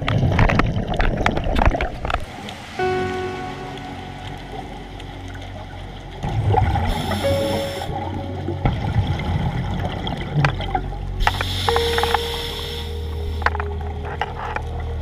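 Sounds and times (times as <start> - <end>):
underwater noise: 0.0 - 15.0
music with sustained tones: 2.3 - 15.0.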